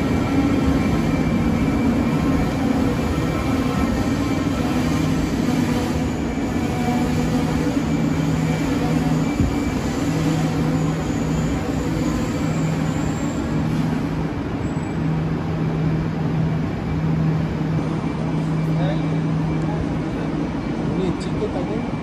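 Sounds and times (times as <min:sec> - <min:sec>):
train rumbling into station: 0:00.0 - 0:22.0.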